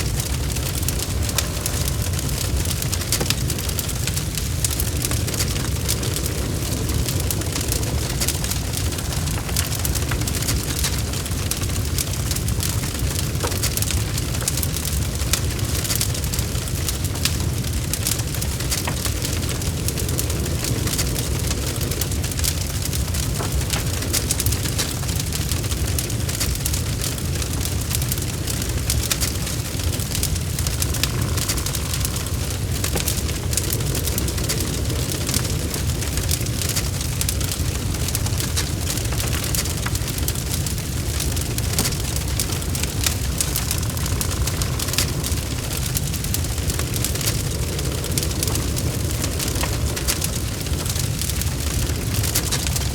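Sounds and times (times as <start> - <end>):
fire crackling and popping: 0.0 - 52.9
low rumble of flame: 0.0 - 52.9.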